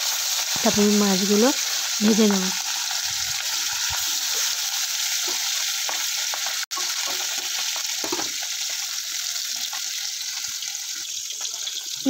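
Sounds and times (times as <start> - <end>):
fish sizzling in hot oil: 0.0 - 12.0
small crackles of frying: 0.0 - 12.0.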